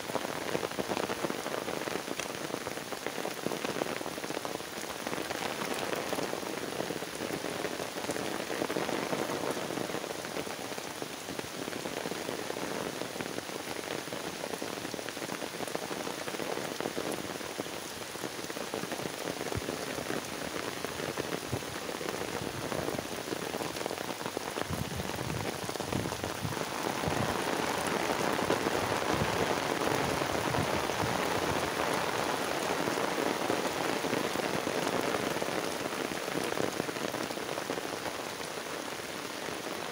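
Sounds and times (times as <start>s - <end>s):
heavy rain on wet ground: 0.0s - 39.9s.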